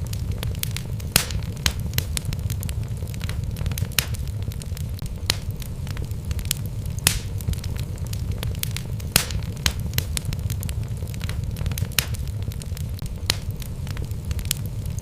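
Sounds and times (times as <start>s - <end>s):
fire popping: 0.0s - 15.0s
logs crackling in fireplace: 0.0s - 15.0s
low rumble of fire: 0.0s - 15.0s.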